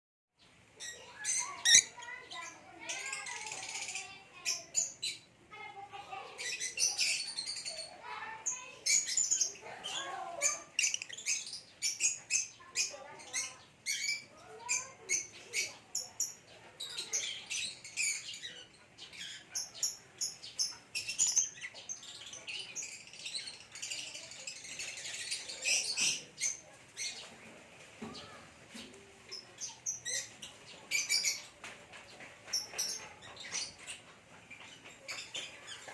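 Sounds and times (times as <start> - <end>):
lovebirds chirping and chattering: 0.4 - 35.9.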